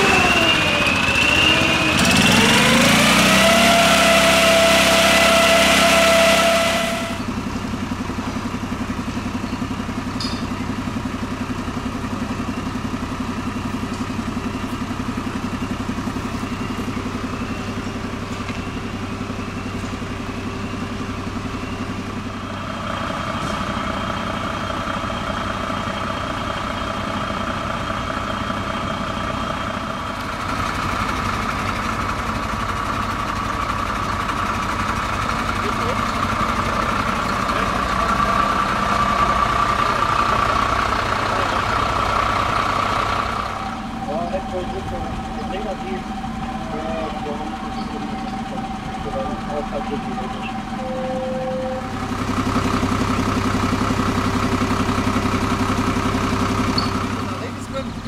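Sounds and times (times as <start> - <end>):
fire engine idling: 0.0 - 58.0.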